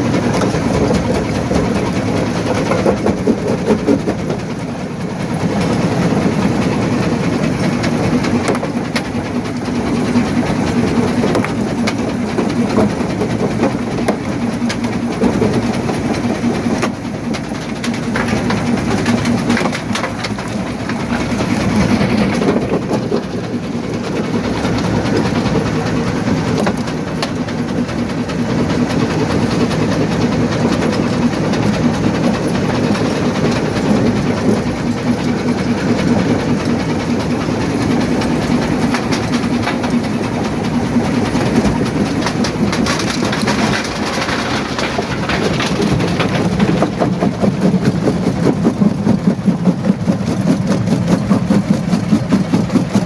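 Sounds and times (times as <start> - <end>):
jaw crusher rumbling: 0.0 - 53.0.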